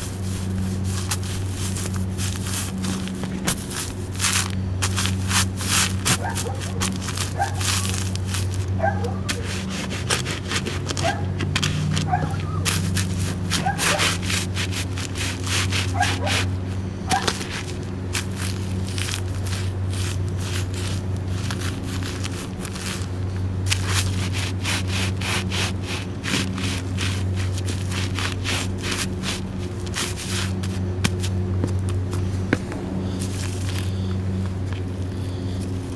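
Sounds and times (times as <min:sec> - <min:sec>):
crackers crunching under boots: 0:00.0 - 0:35.9
steady low hum: 0:00.0 - 0:35.9.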